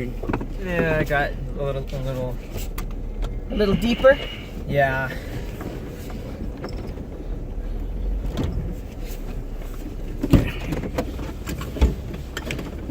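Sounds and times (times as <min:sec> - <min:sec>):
vehicle engine rumbling: 0:00.0 - 0:12.9.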